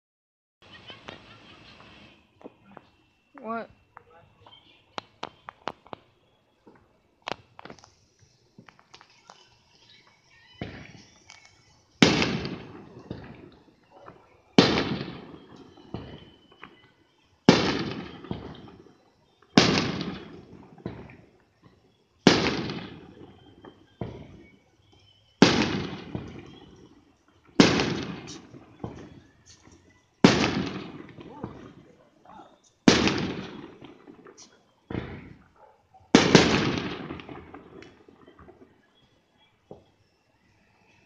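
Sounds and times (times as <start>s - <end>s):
fireworks exploding: 0.6s - 41.0s
fireworks pops and crackles: 0.7s - 41.0s.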